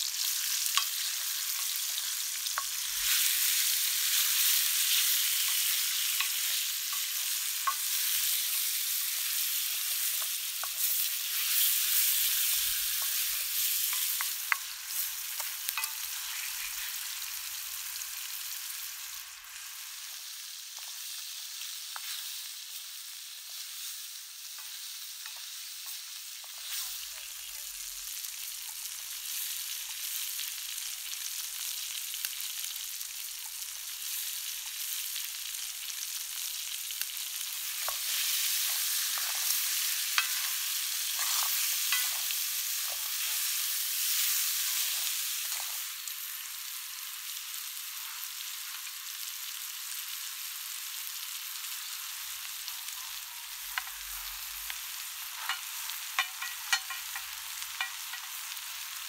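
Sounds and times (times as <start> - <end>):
chicken sizzling in wok: 0.0 - 59.0.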